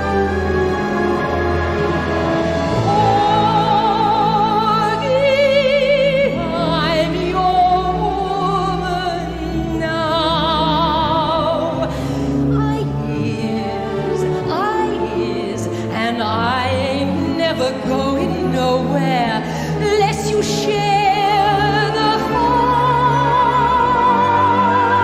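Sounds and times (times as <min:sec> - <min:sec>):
orchestral accompaniment: 0:00.0 - 0:25.0
woman singing soprano with vibrato: 0:02.7 - 0:25.0.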